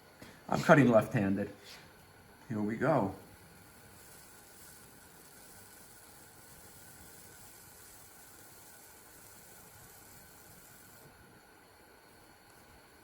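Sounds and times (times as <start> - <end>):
faint room tone hiss: 0.0 - 13.0.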